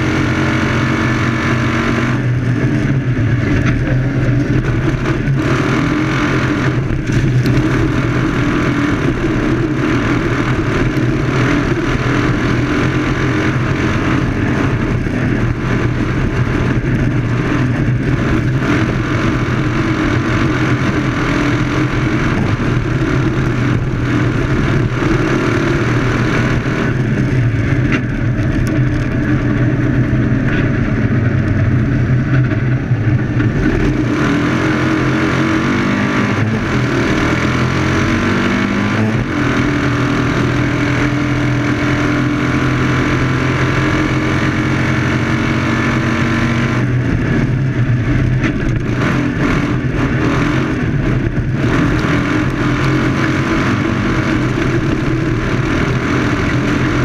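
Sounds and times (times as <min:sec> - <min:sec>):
racing car engine drone: 0:00.0 - 0:57.0
rush of wind and dirt: 0:00.0 - 0:57.0.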